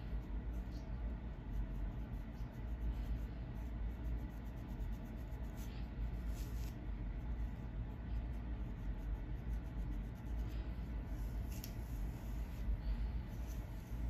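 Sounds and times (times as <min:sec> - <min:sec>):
comb scratching scalp: 0:00.0 - 0:14.0
steady low rumble: 0:00.0 - 0:14.0.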